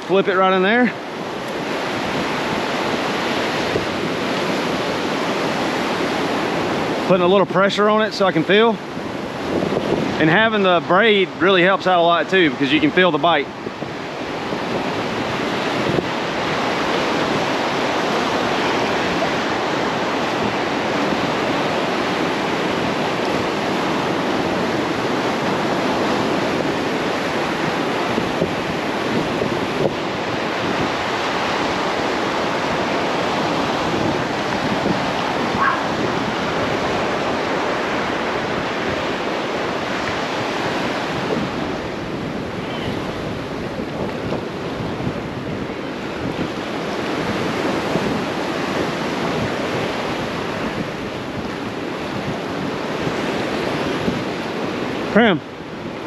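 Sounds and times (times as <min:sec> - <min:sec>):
surf sloshing around pilings: 0:00.0 - 0:56.0
wind on microphone: 0:00.0 - 0:56.0.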